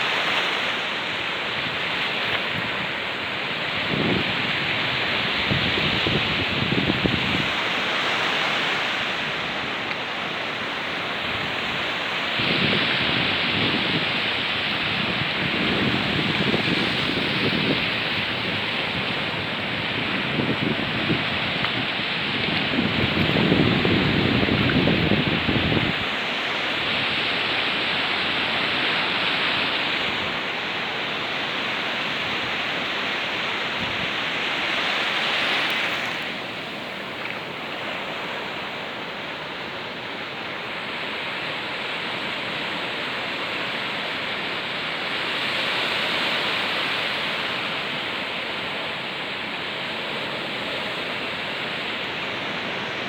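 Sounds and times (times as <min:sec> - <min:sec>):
waterfall rushing: 0:02.8 - 0:53.0.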